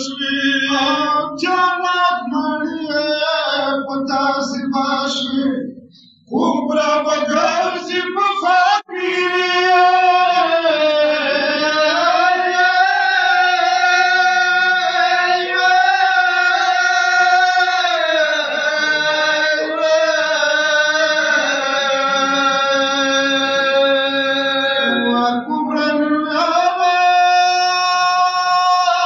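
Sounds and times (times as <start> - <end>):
man chanting a lament: 0.0 - 29.0.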